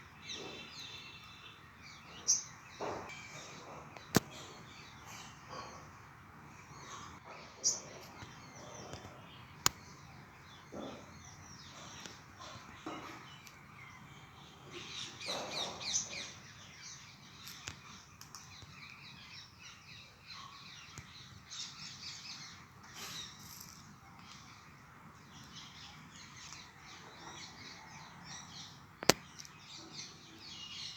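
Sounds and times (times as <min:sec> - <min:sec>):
faint outdoor background noise: 0:00.0 - 0:30.9
small birds chirping: 0:00.0 - 0:30.9.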